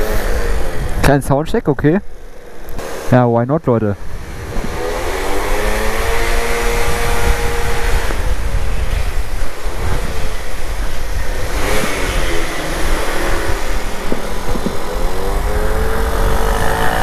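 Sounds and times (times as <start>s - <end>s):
scooter engines revving: 0.0s - 17.0s.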